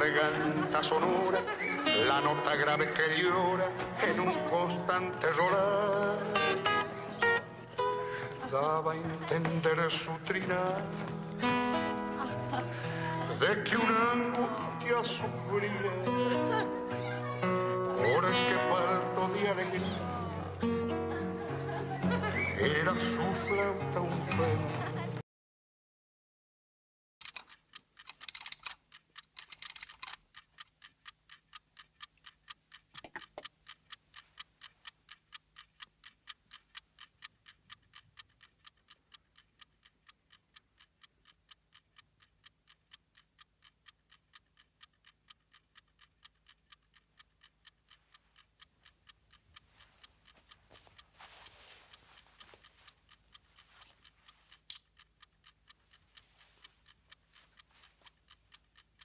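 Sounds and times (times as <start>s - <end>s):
clock ticking: 0.0s - 25.2s, 27.2s - 59.0s.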